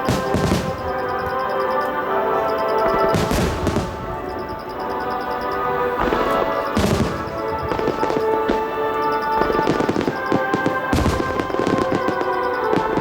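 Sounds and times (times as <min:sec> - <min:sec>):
fireworks bursting and crackling: 0:00.0 - 0:01.8, 0:02.8 - 0:05.0, 0:05.6 - 0:13.0
music playing: 0:00.0 - 0:13.0.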